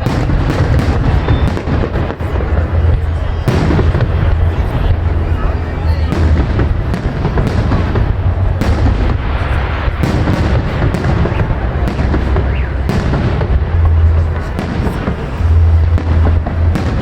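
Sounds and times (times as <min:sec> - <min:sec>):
firework booms: 0:00.0 - 0:17.0
firework crackling: 0:00.0 - 0:17.0
low rumble: 0:00.0 - 0:17.0.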